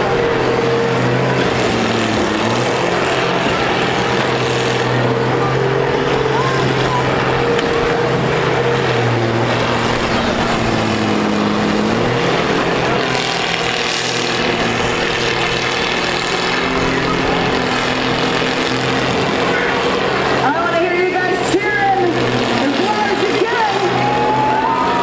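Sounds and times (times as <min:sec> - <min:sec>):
diesel engines revving: 0:00.0 - 0:25.0.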